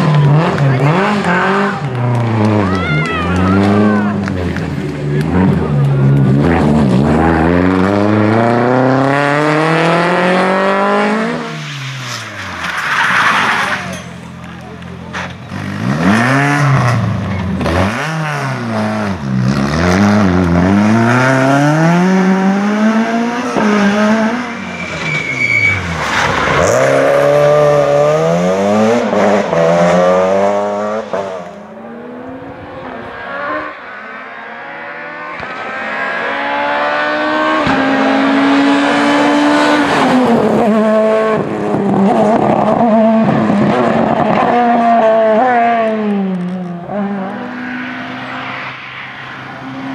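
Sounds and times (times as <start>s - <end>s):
rally car engines revving past: 0.0s - 49.9s.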